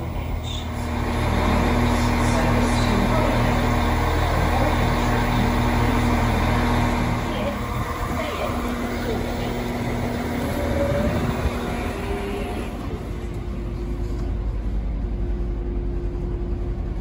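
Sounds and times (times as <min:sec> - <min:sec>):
diesel engines idling: 0:00.0 - 0:17.0.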